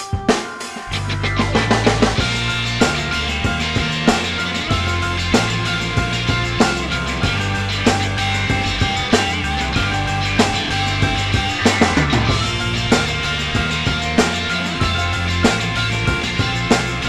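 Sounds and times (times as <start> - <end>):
drum kit hits: 0.0 - 17.0
rock music: 0.0 - 17.0.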